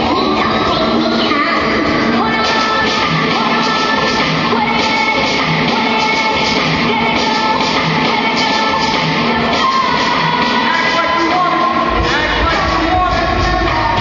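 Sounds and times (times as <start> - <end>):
loud music with singing and beat: 0.0 - 14.0.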